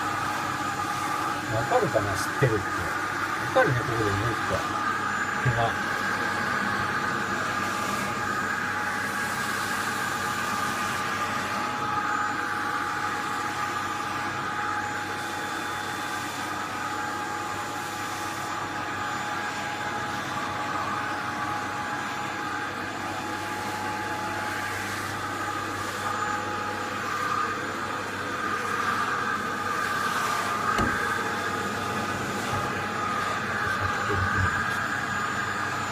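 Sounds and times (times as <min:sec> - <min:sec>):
vacuum cleaner whining: 0:00.0 - 0:35.9.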